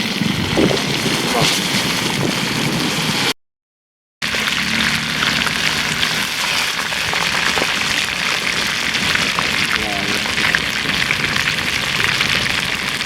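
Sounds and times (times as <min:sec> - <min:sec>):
chicken frying in hot oil: 0:00.0 - 0:03.3, 0:04.2 - 0:13.0.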